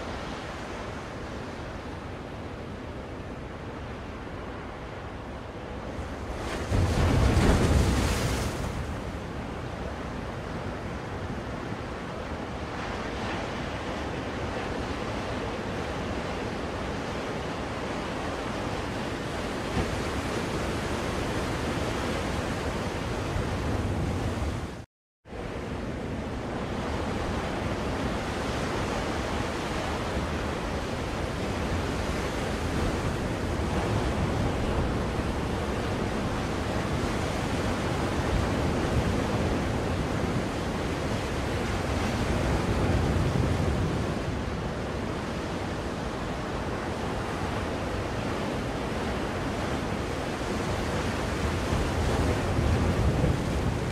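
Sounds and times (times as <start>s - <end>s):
ocean waves surf: 0.0s - 53.9s.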